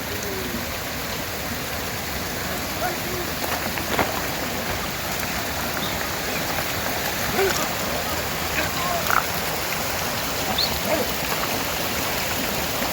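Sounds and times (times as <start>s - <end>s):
heavy rain falling: 0.0s - 12.9s.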